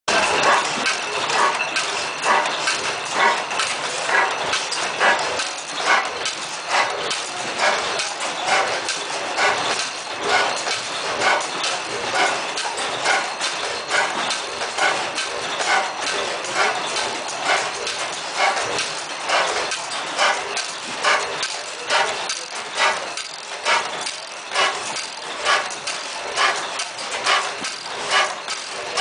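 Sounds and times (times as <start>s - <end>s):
stationary gas engine clacking: 0.1s - 29.0s.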